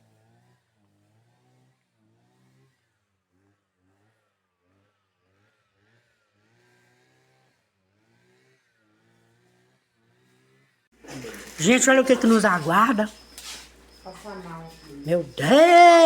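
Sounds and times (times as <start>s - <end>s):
faint engine revving: 0.0s - 15.5s.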